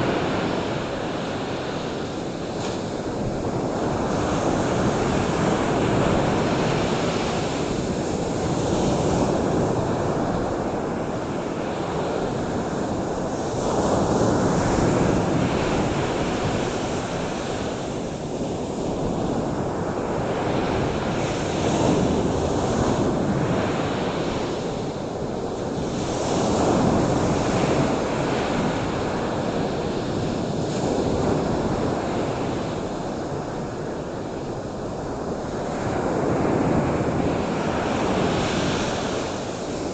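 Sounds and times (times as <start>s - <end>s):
ocean surf washing ashore: 0.0s - 39.9s.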